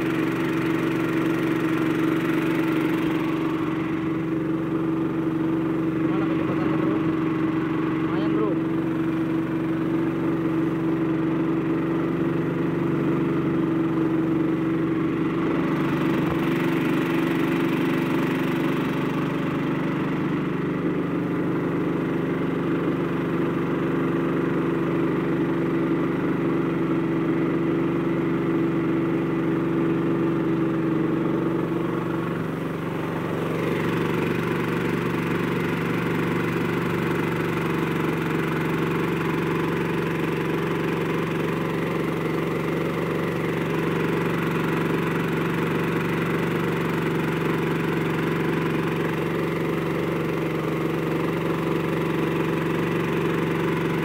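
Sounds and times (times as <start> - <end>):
single-cylinder engine running: 0.0 - 54.0.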